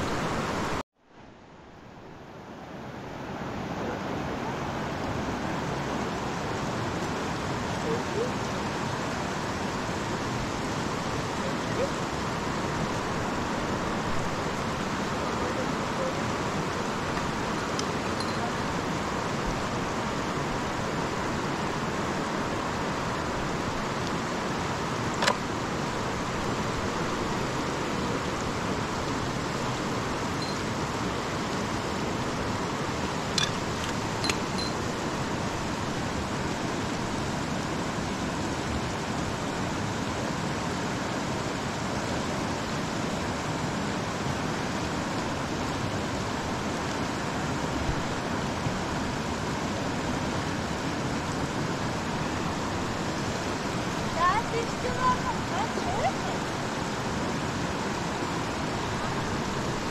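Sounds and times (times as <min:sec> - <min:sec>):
fast-flowing river rushing: 0:00.0 - 0:00.8, 0:01.6 - 0:59.9.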